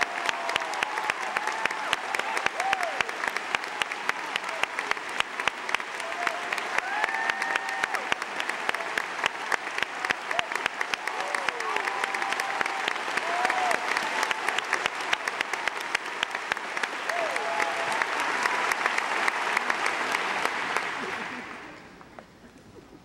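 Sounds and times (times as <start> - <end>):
audience applauding: 0.0 - 22.1.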